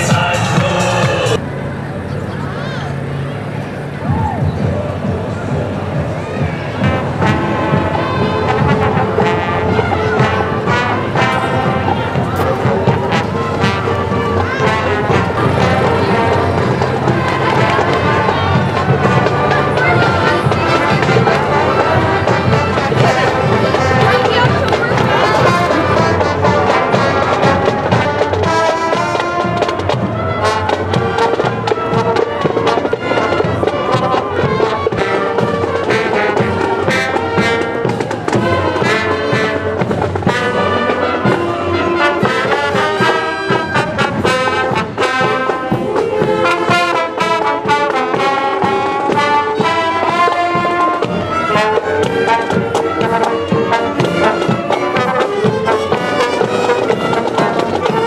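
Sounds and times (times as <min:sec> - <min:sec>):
marching band playing: 0:00.0 - 0:01.4, 0:02.5 - 0:58.0.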